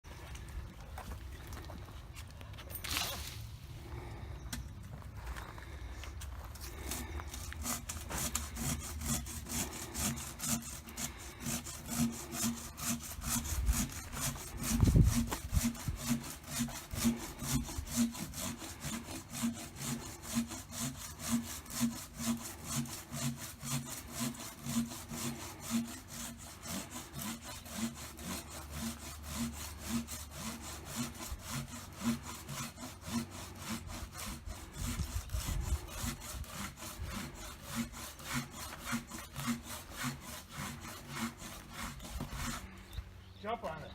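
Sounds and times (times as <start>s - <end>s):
hand saw cutting wood: 6.4s - 43.0s.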